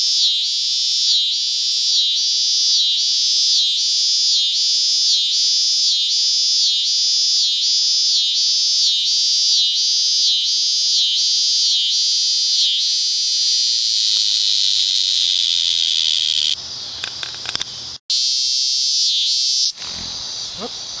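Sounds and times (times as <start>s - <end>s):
cicadas buzzing shrilly: 0.0s - 21.0s.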